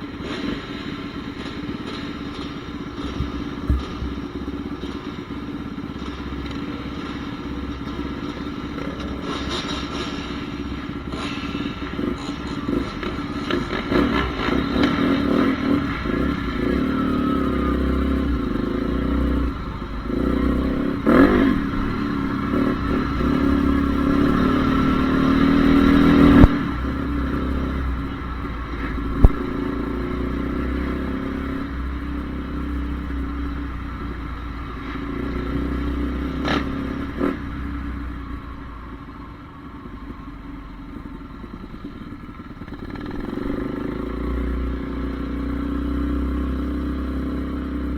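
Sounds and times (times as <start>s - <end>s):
motocross engine revving: 0.0s - 5.1s, 5.7s - 37.9s, 42.2s - 47.9s.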